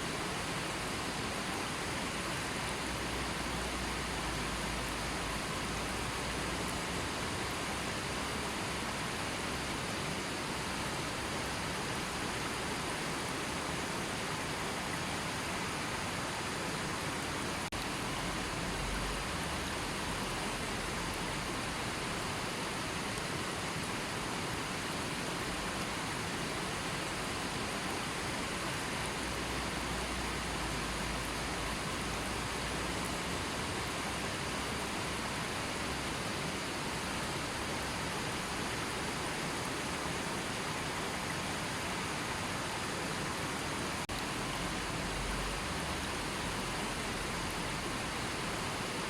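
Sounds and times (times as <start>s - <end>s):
river flowing: 0.0s - 49.0s.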